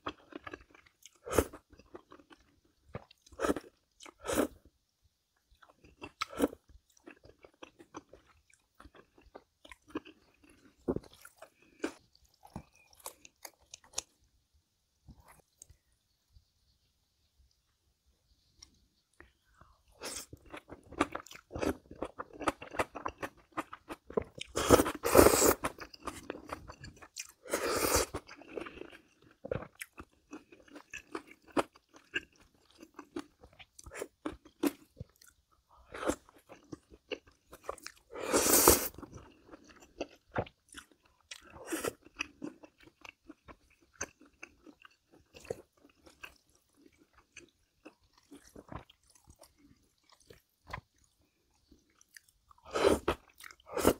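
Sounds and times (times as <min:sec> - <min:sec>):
chewing and crunching vegetables: 0:00.0 - 0:14.4, 0:15.0 - 0:16.5, 0:18.3 - 0:53.9.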